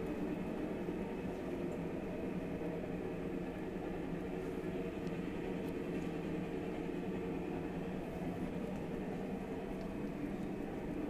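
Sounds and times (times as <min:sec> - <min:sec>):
low background hum and hiss: 0:00.0 - 0:11.0.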